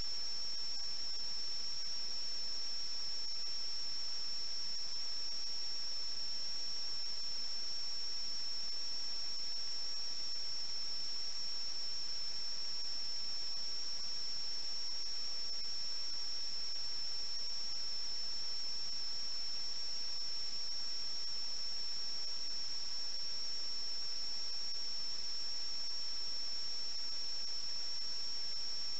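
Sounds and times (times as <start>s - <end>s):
high-pitched whine: 0.0s - 28.9s
static hiss: 0.0s - 28.9s.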